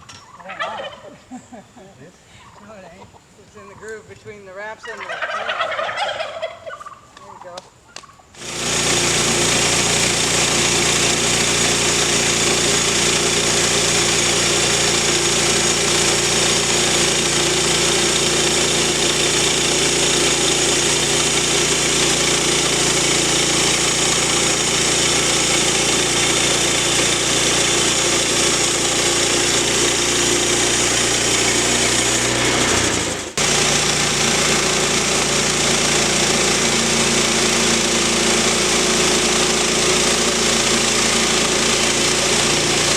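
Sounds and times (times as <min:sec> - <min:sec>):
sawmill engine running: 0:08.4 - 0:42.9.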